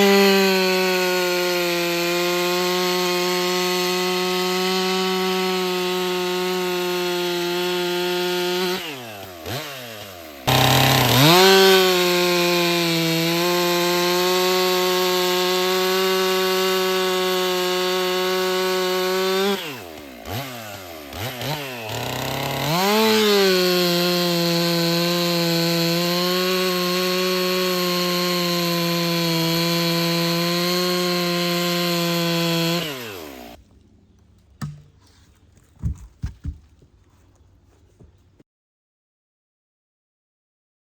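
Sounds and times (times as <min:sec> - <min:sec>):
chainsaw cutting logs: 0:00.0 - 0:38.4.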